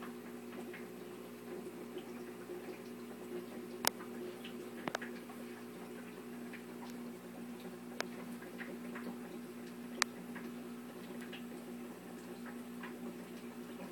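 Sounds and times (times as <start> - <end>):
aquarium air pump humming: 0.0 - 13.9.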